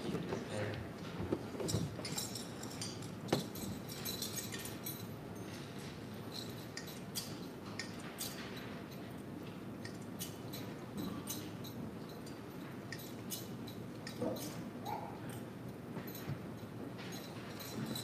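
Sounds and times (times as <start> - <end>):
small clinks and light knocks: 0.0 - 18.0.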